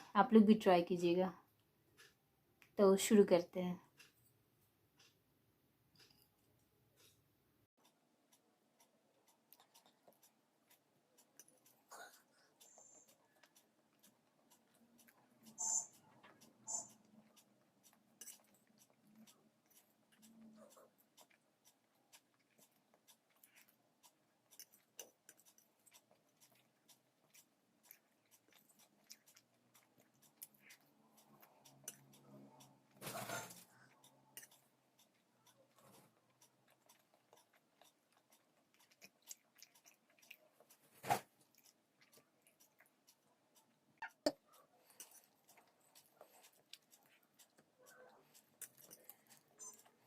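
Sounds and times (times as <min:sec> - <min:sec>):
chewing: 0:05.9 - 0:50.0
soft eating clicks: 0:05.9 - 0:50.0.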